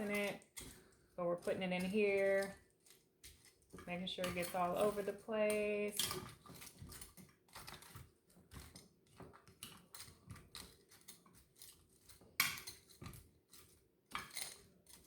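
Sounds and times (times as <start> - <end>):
utensil scraping in pan: 0.0 - 15.0.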